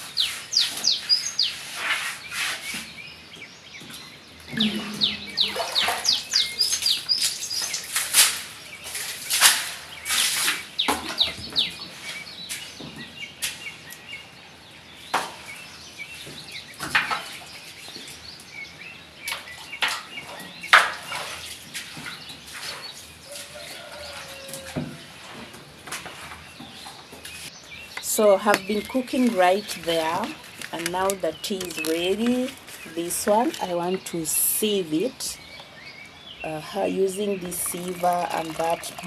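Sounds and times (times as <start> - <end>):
birds chirping: 0.0 - 2.3, 2.9 - 9.1, 9.8 - 21.4, 22.0 - 25.4, 26.3 - 39.0.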